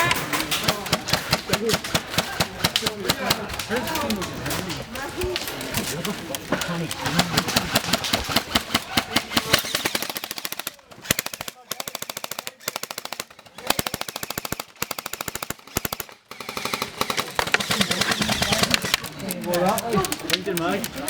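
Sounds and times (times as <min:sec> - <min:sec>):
airsoft guns firing full auto: 0:00.0 - 0:21.0.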